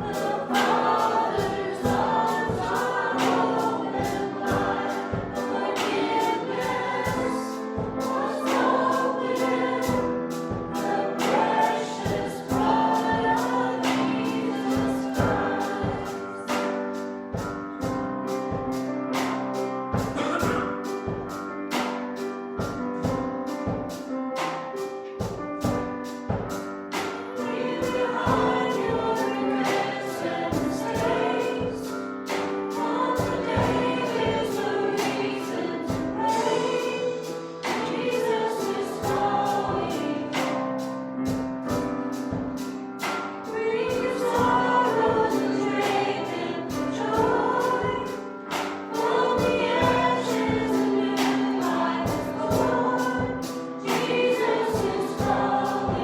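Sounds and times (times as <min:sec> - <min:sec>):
group singing gospel with band: 0:00.0 - 0:24.6, 0:25.2 - 0:56.0.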